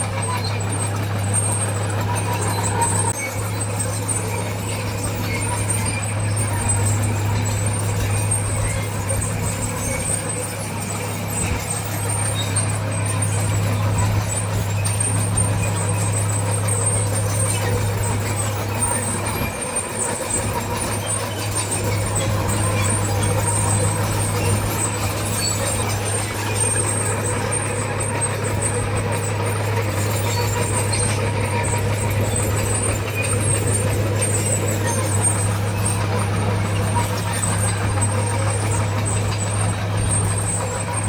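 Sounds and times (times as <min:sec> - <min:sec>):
heavy diesel machinery drone: 0:00.0 - 0:41.0.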